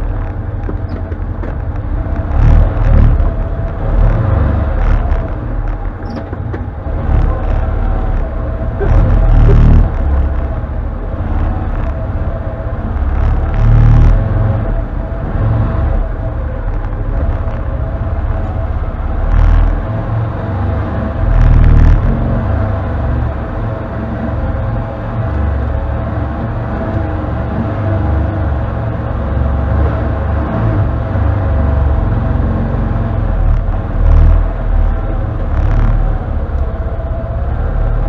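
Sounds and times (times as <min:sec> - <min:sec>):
off-road vehicle engine running: 0:00.0 - 0:38.0.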